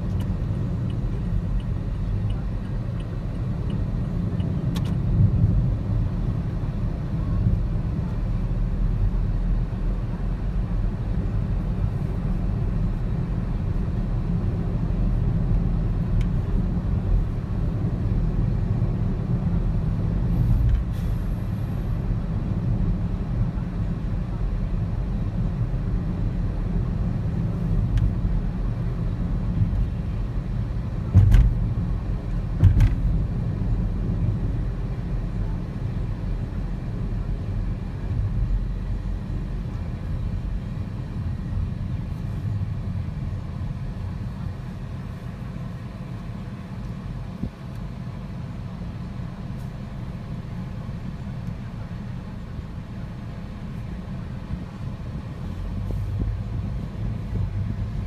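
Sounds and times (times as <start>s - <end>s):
moving car rumble: 0.0s - 58.0s.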